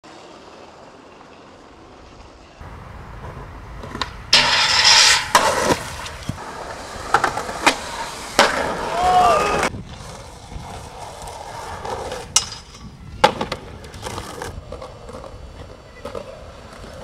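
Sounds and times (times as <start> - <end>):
skateboard wheels rolling on pavement: 0.0 - 17.0
skateboard clacks: 3.2 - 17.0
skateboard grinding on handrail: 3.2 - 17.0.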